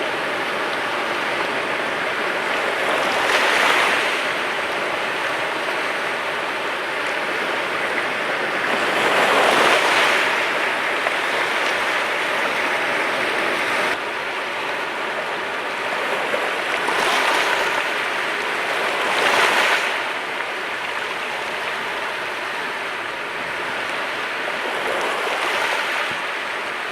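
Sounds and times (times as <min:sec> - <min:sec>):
sea waves washing onto shore: 0:00.0 - 0:26.9
waves breaking: 0:00.0 - 0:26.9.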